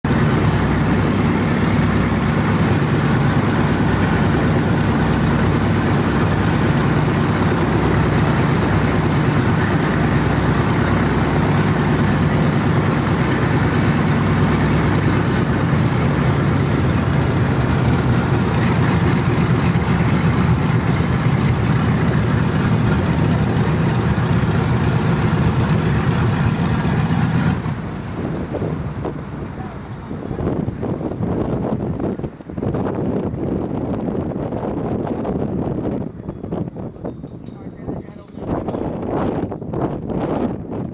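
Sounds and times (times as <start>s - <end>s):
radial aircraft engines idling: 0.1s - 40.4s.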